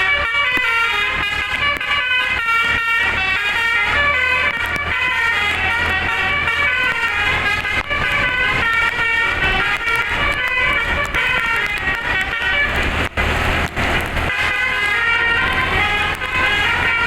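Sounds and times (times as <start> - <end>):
bus air horns playing a tune: 0.0 - 17.0.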